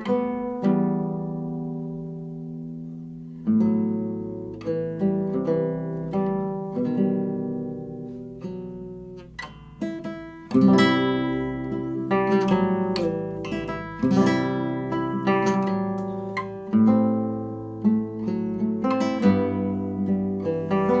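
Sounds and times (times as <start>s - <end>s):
classical guitar fingerstyle: 0.0s - 21.0s.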